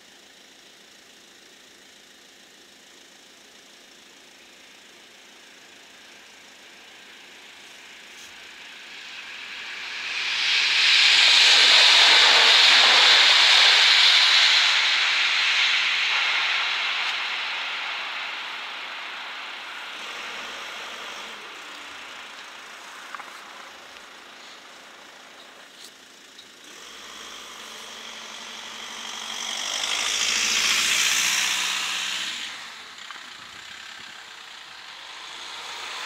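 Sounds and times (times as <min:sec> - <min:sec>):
train wheels on rails: 0:07.1 - 0:36.0.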